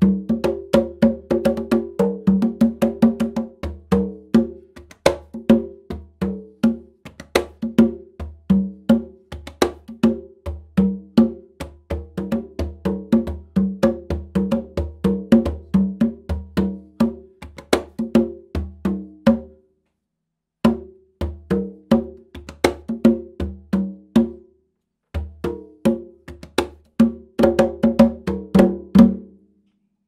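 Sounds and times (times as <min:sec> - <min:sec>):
congas played by hand: 0:00.0 - 0:19.6, 0:20.6 - 0:24.5, 0:25.1 - 0:29.4.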